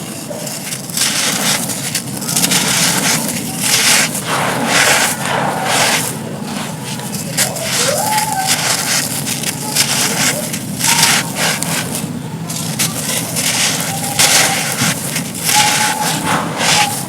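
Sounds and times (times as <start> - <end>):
dry cones crunching by hand: 0.0 - 17.0.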